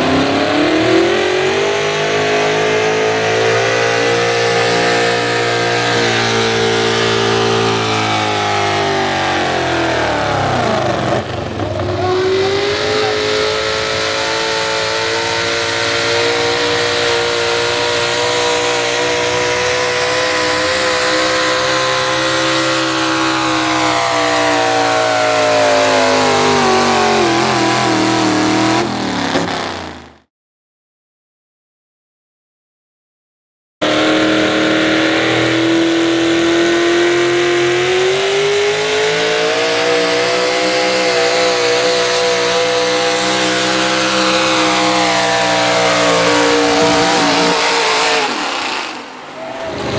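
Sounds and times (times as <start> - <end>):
truck engines at full throttle: 0.0 - 30.3, 33.8 - 49.9.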